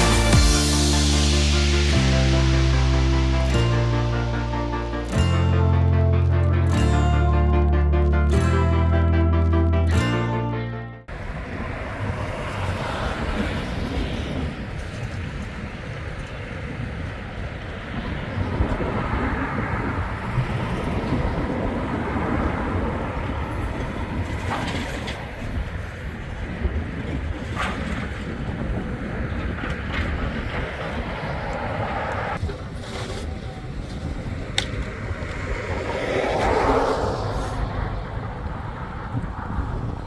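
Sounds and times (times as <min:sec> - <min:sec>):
rumble of vehicles or machinery: 0:00.0 - 0:40.0.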